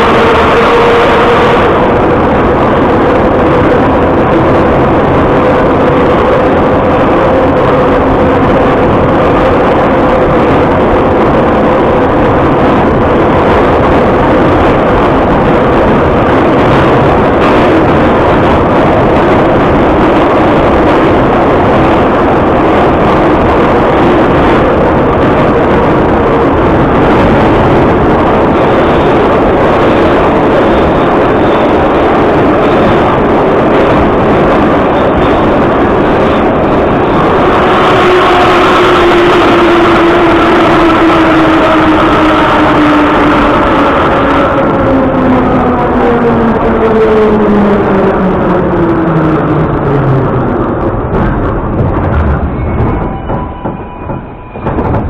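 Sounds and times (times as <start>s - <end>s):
faint train whine: 0.0s - 55.0s
train wheels rumbling on rails: 0.0s - 55.0s.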